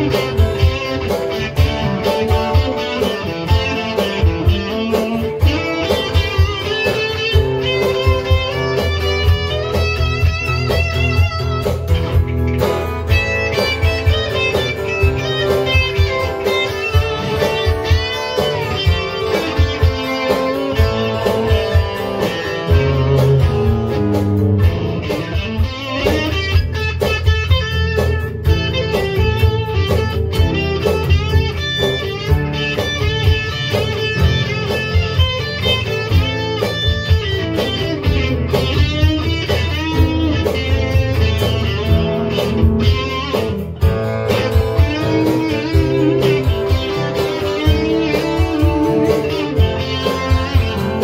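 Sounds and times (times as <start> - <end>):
keyboard: 0.0 - 51.0
lead electric guitar bending notes: 0.0 - 51.0
rhythm guitar: 0.0 - 51.0
steady drum beat: 0.0 - 51.0.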